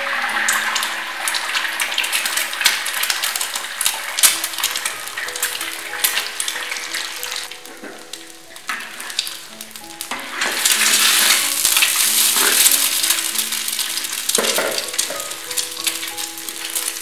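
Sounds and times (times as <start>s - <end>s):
eggs sizzling in oil: 0.0s - 17.0s
oil crackling and spitting: 0.3s - 17.0s.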